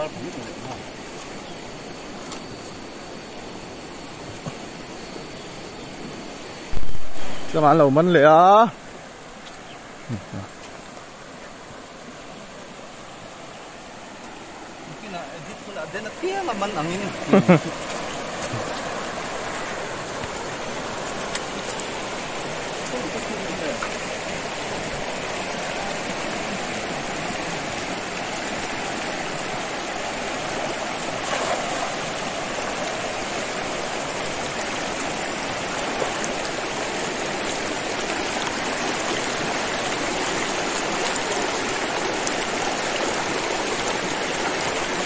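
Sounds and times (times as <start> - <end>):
river rushing over stones: 5.6 - 45.0.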